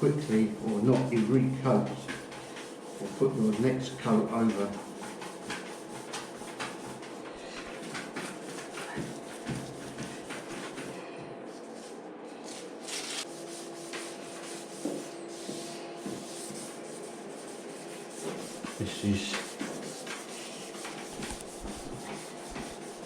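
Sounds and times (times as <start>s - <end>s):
sandpaper rubbing strokes: 0.0s - 23.0s.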